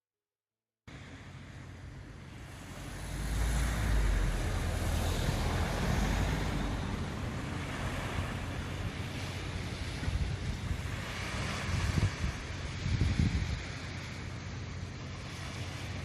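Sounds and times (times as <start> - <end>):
surf washing on shore: 0.9 - 16.0
wind buffeting microphone: 2.4 - 16.0.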